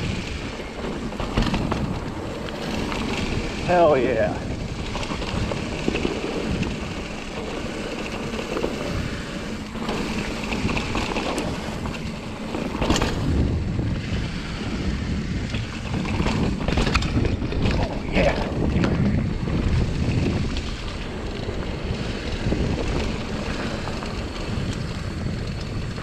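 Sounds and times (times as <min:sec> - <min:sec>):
bike knocks and clacks: 0:00.0 - 0:26.0
bike tyres on dirt: 0:00.0 - 0:26.0
wind rush over microphone: 0:00.0 - 0:26.0.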